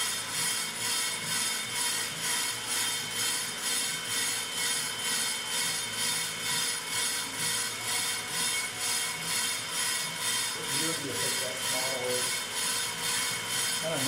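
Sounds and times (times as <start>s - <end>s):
brake lathe hiss and whine: 0.0s - 14.0s.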